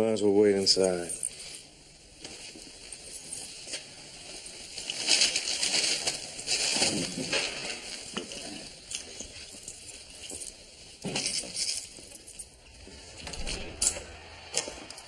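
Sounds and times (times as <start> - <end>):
rustling: 0.5 - 15.0.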